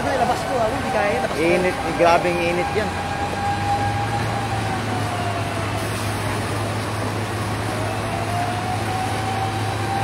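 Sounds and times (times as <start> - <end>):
fire engines humming: 0.0 - 10.0.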